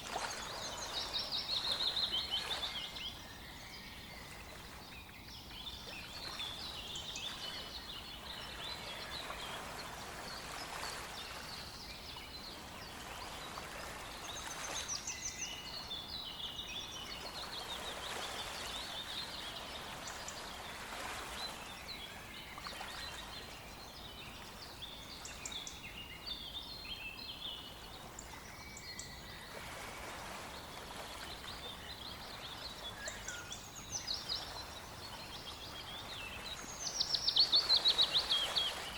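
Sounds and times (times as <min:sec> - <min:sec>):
small stream rushing: 0:00.0 - 0:38.9
songbirds chirping: 0:00.0 - 0:38.9.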